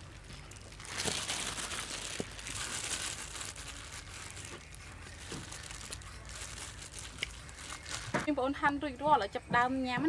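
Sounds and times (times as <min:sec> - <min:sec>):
plastic gloves crinkling: 0:00.0 - 0:08.3.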